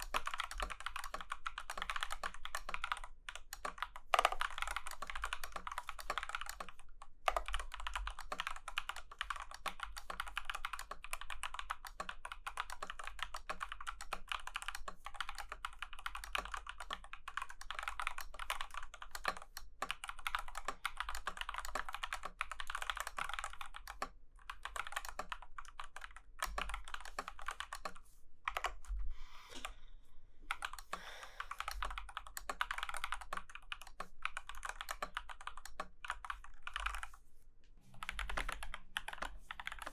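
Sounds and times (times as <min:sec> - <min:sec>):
mechanical keyboard typing: 0:00.0 - 0:28.9, 0:30.5 - 0:37.2, 0:37.9 - 0:39.9.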